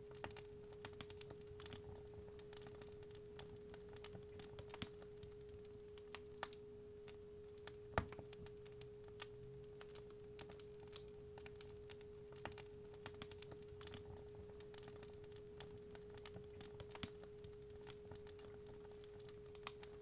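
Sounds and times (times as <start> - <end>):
fire crackling and snapping: 0.0 - 20.0
wood fire popping: 0.0 - 20.0.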